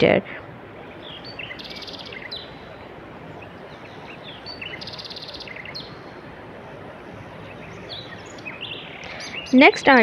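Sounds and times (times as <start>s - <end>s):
birds chirping: 0.0s - 10.0s
steady background hiss: 0.0s - 10.0s.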